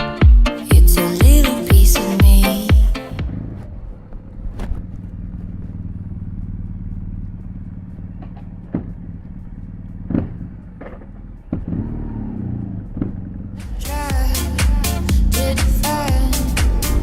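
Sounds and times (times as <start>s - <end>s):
motorcycle engine running: 2.2s - 17.0s
exhaust pops: 3.1s - 17.0s.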